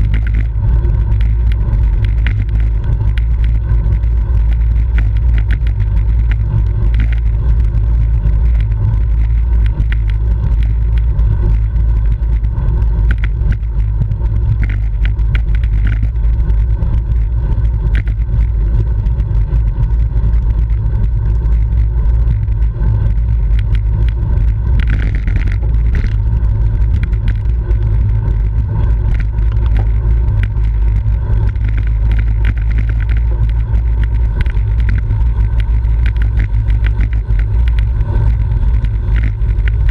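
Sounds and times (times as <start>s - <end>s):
faint clicks: 0.0s - 39.9s
wind rumble on microphone: 0.0s - 39.9s.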